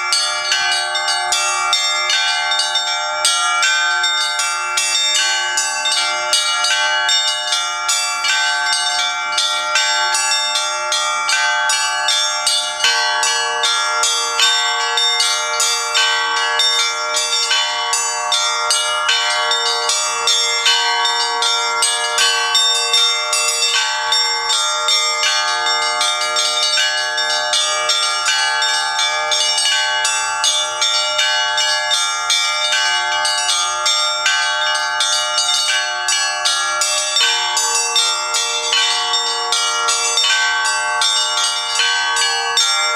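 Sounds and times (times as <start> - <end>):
small bells pealing: 0.0 - 42.9.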